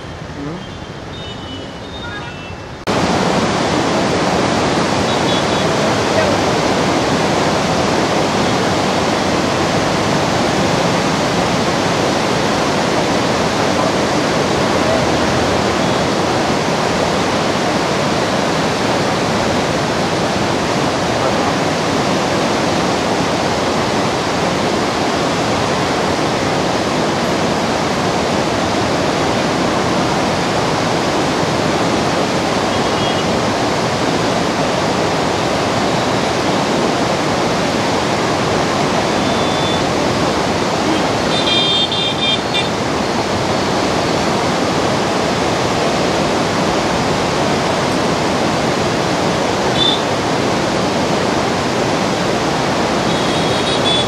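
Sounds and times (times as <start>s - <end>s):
turbulent river water rushing: 0.0s - 54.0s.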